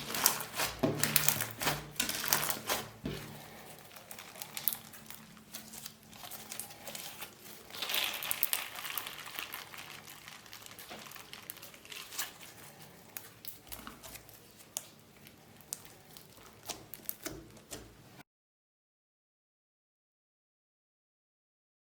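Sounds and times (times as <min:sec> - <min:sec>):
beaded slime crackling and popping: 0:00.0 - 0:17.8.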